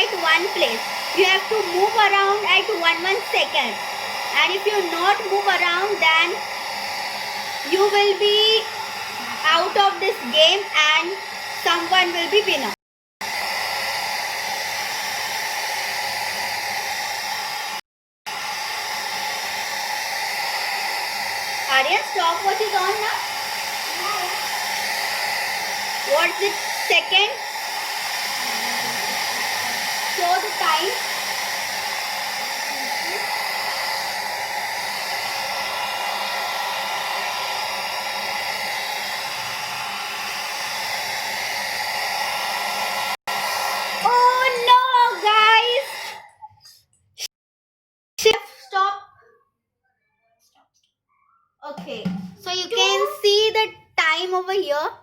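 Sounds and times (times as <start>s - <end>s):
hair dryer blowing: 0.0s - 46.4s.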